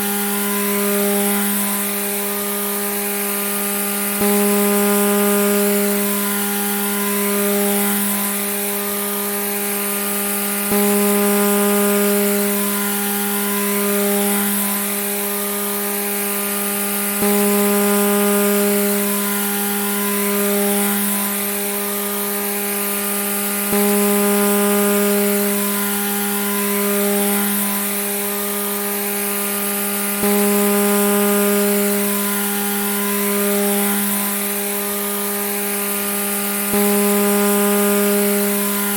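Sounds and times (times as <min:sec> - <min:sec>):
grass trimmer buzzing: 0:00.0 - 0:38.9.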